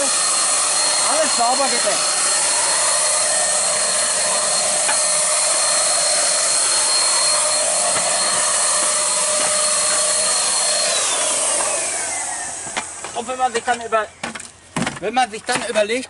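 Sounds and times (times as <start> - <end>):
electric paint spray gun: 0.0 - 13.9.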